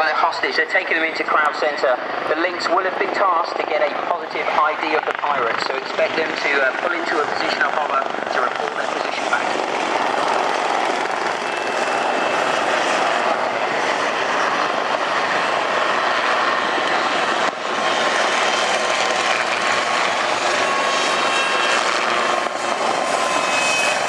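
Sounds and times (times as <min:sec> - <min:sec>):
faint high turbine whine: 0:00.0 - 0:24.0
helicopters flying low overhead: 0:00.0 - 0:24.0.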